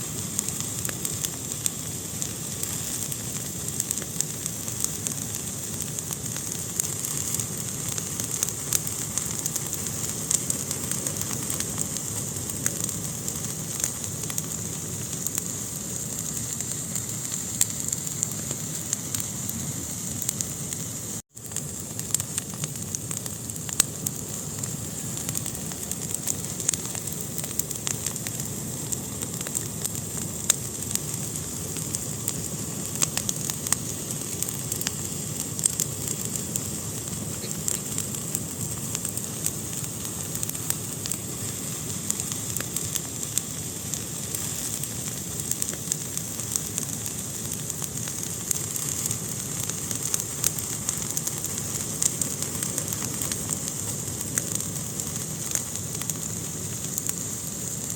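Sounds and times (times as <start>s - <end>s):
sharp pops from fire: 0.0s - 57.9s
wood fire crackling: 0.0s - 57.9s.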